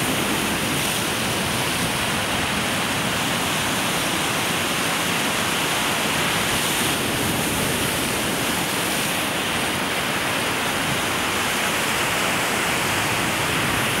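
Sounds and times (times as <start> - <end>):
waves washing through ice slush: 0.0 - 14.0.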